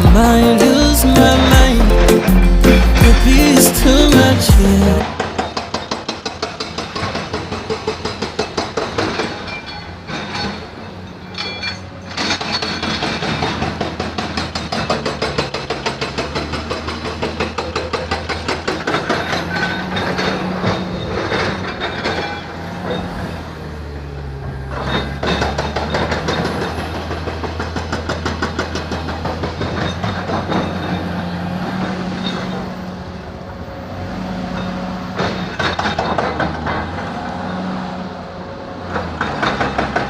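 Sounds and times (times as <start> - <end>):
engine running with clatter: 0.0 - 40.0.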